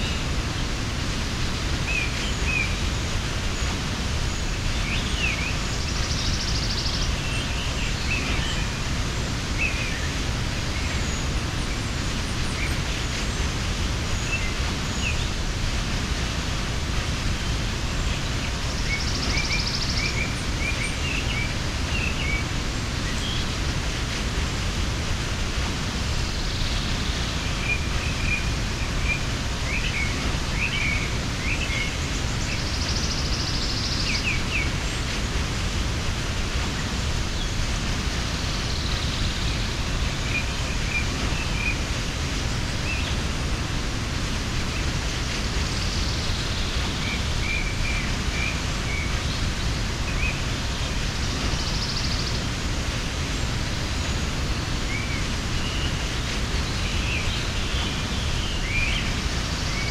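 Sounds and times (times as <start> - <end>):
small birds chirping: 0.0 - 59.9
waterfall rushing: 0.0 - 59.9.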